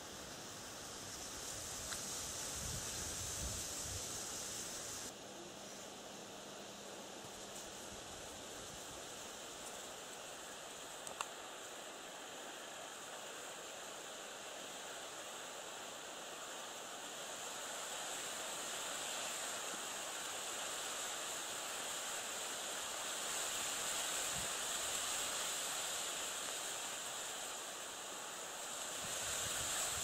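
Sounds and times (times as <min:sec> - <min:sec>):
breeze hissing: 0:00.0 - 0:30.0.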